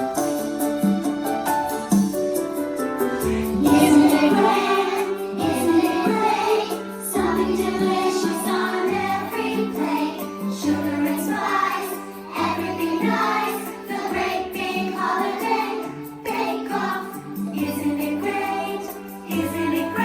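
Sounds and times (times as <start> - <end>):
piano accompaniment: 0.0 - 20.0
children singing: 3.1 - 20.0.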